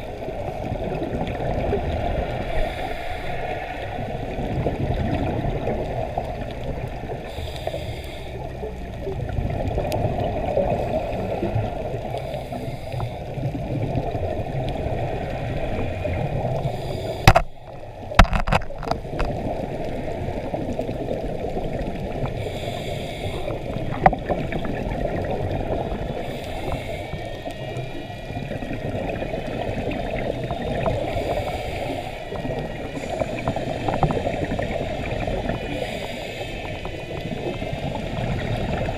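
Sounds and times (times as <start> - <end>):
muffled underwater rumble: 0.0 - 38.9
scuba regulator bubbles: 0.0 - 38.9.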